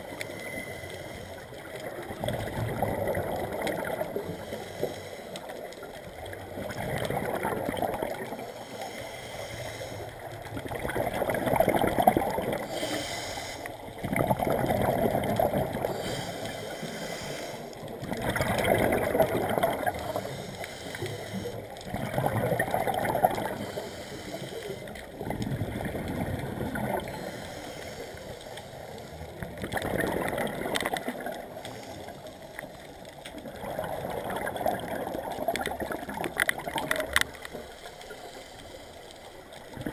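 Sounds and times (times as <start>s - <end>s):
exhaled bubbles underwater: 0.0s - 8.8s, 9.6s - 38.0s, 39.3s - 39.9s.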